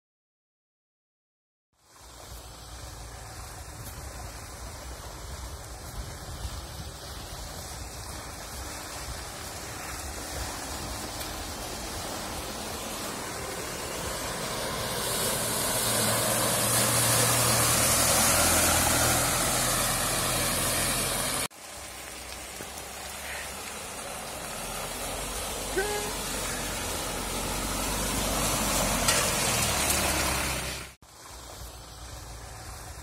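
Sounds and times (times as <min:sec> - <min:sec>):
tyres churning and splashing mud: 0:01.8 - 0:33.0
engine under load: 0:01.9 - 0:22.0, 0:22.6 - 0:33.0.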